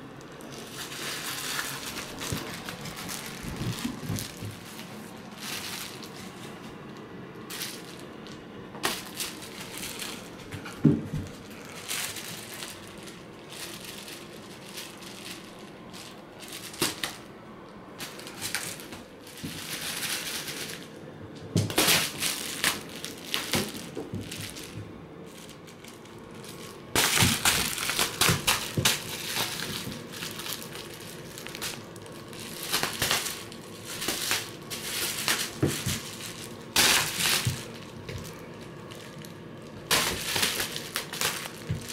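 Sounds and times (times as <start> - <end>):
bubble wrap crinkling: 0.0 - 41.9.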